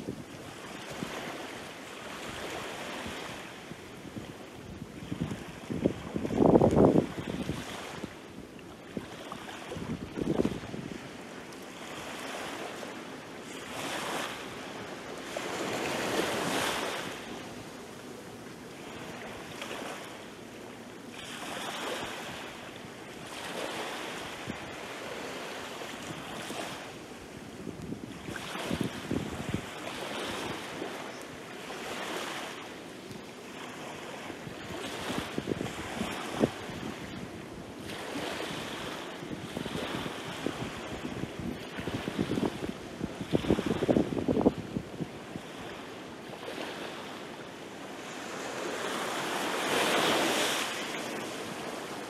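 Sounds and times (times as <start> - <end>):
waves washing up a sandy beach: 0.0 - 52.0.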